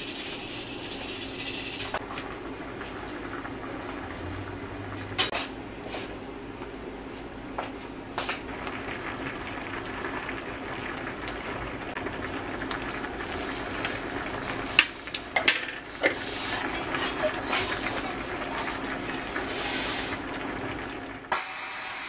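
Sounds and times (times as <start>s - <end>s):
stew bubbling in a pot: 0.2s - 5.2s, 8.3s - 21.7s.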